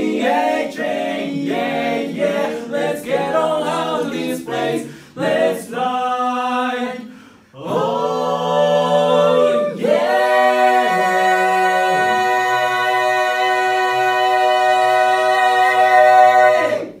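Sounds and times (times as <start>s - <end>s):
male quartet singing a cappella: 0.0s - 17.0s.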